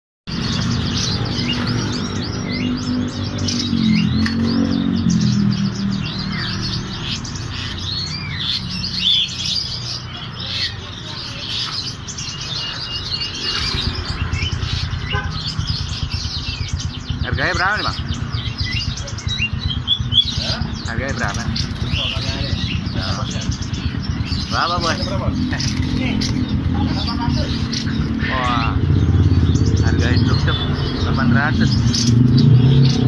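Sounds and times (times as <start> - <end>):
birds chirping and twittering: 0.3 - 33.0.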